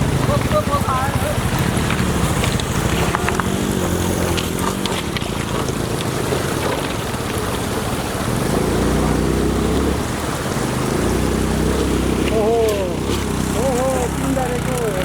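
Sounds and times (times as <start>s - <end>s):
motor scooter engine running: 0.0s - 15.0s.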